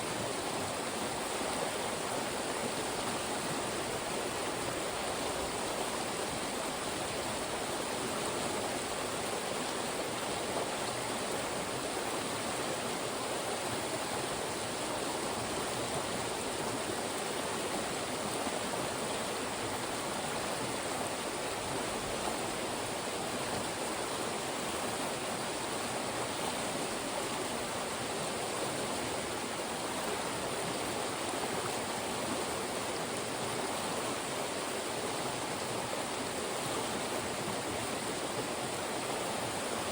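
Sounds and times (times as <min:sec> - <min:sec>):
stream rushing between rocks: 0:00.0 - 0:39.9.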